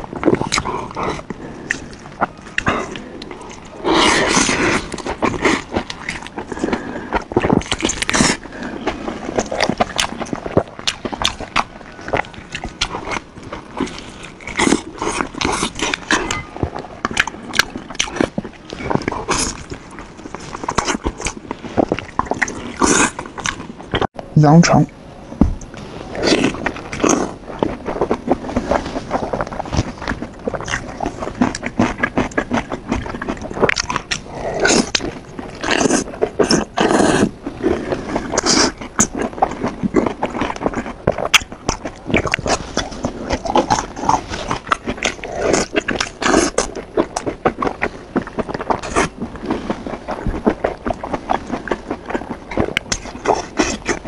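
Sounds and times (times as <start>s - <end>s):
chewing with wet mouth clicks: 0.0s - 24.1s, 25.6s - 54.0s.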